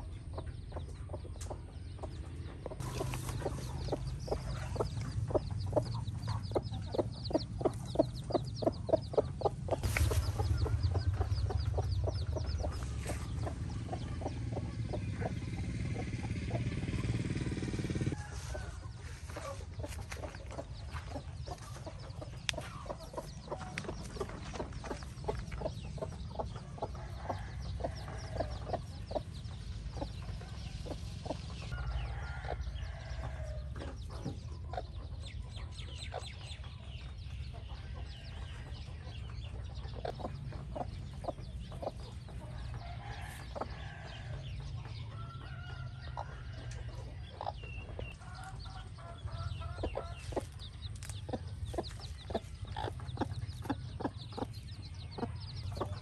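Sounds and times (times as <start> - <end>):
chicks peeping: 0.0 - 56.0
hen clucking: 0.0 - 56.0
steady low rumble: 0.0 - 56.0.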